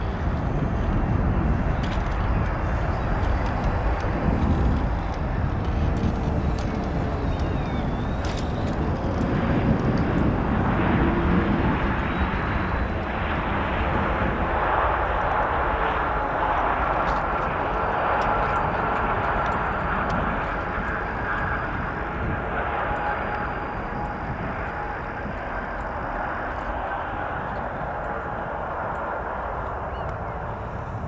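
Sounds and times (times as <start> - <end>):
jet engines rushing: 0.0 - 31.0
thin engine whine: 0.0 - 31.0.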